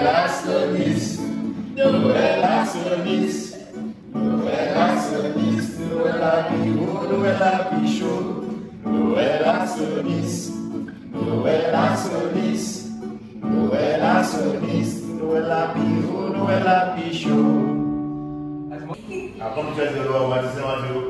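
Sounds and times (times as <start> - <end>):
man singing: 0.0 - 17.8
acoustic guitar strumming: 0.0 - 19.0.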